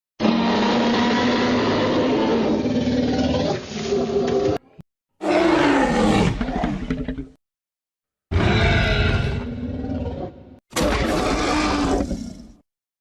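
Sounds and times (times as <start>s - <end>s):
dinosaur roar: 0.2s - 4.6s, 5.2s - 7.4s, 8.3s - 12.6s.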